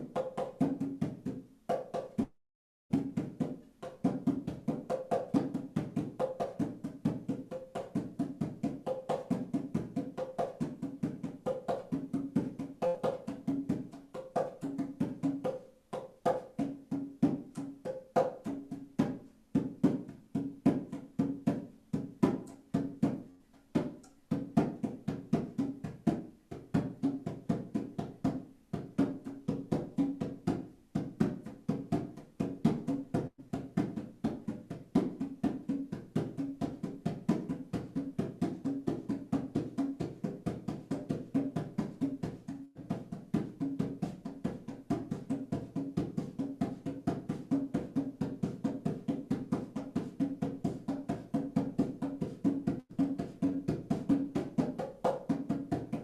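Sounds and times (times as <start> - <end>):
hand drum beating: 0.0 - 56.0.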